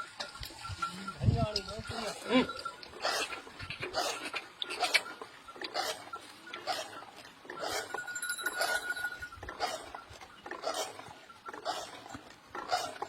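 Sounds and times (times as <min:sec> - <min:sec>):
well-lifting gear clinking: 0:00.0 - 0:13.0.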